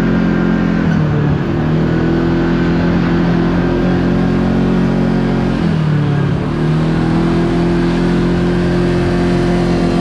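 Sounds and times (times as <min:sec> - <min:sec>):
utility vehicle engine running: 0:00.0 - 0:10.0.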